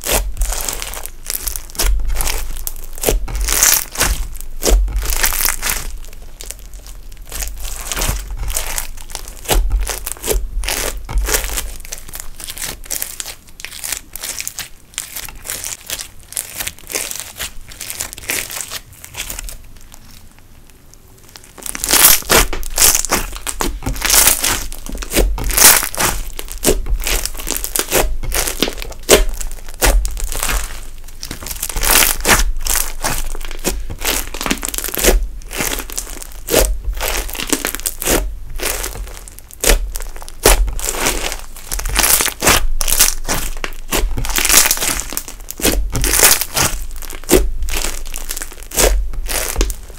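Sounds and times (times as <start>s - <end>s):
slime sticky clicks and crackles: 0.0s - 20.1s, 21.3s - 49.9s.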